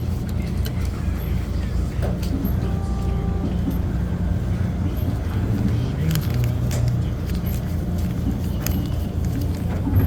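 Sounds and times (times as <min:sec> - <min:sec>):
low machinery rumble: 0:00.0 - 0:10.0.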